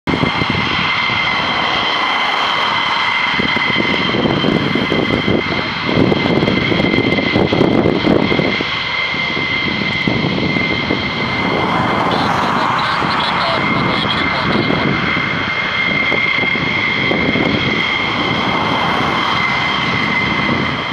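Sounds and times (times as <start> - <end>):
jet engines whining and rumbling: 0.0 - 20.9.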